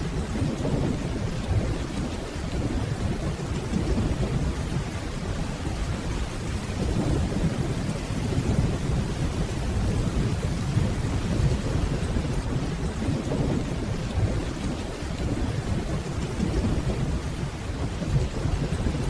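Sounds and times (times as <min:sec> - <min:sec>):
distant rolling thunder: 0:00.0 - 0:19.0
steady rainfall: 0:00.0 - 0:19.0.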